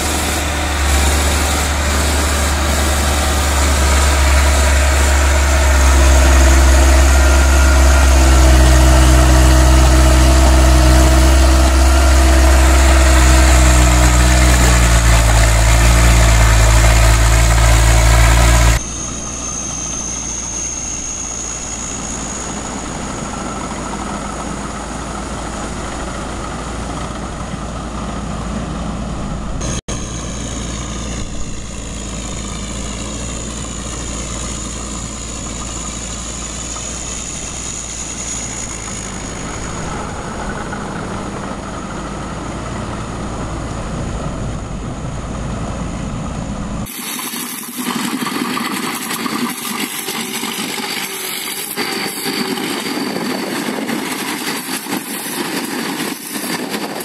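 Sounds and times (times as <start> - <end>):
thin high whine: 0.0 - 27.2, 29.3 - 57.0
tractor engine running: 0.0 - 57.0.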